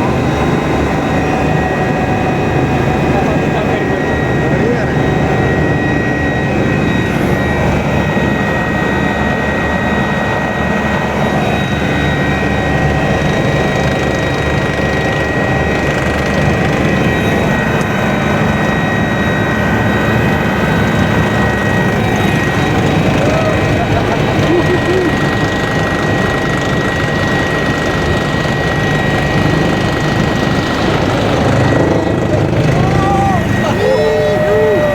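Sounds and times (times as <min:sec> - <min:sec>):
helicopter turbine whine and rumble: 0:00.0 - 0:34.9.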